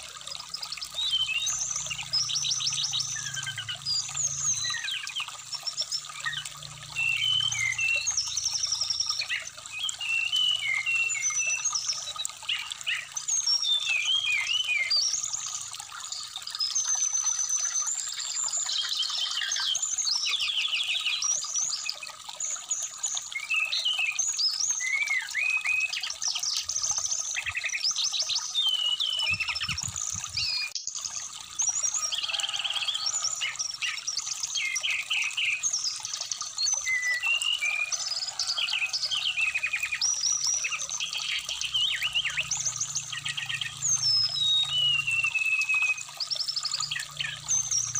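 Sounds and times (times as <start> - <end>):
bird singing chirps and trills: 0.0 - 47.9
stream trickling: 0.0 - 47.9.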